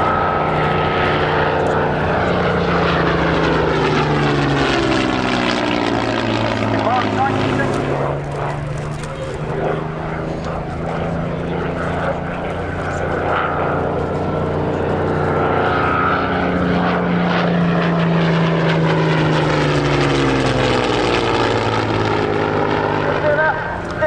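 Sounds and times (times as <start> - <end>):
propeller aircraft engines droning: 0.0 - 24.0.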